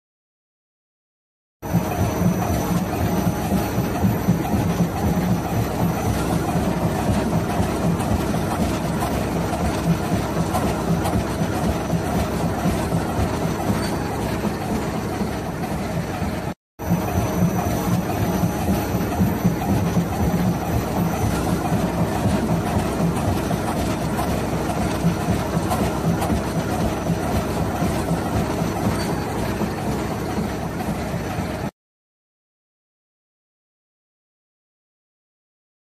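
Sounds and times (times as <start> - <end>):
chopping machine rumbling: 1.7 - 31.7.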